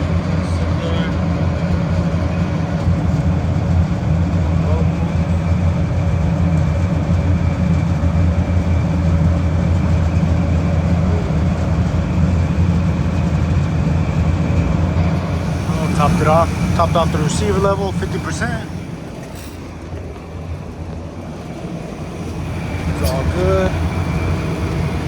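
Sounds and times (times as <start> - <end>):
refrigeration unit mechanical hum: 0.0 - 25.0.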